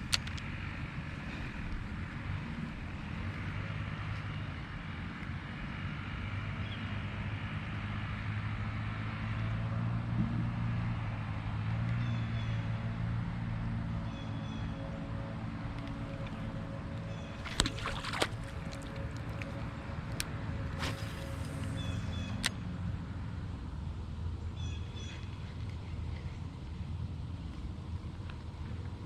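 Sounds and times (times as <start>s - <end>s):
distant motor humming: 0.0s - 23.7s.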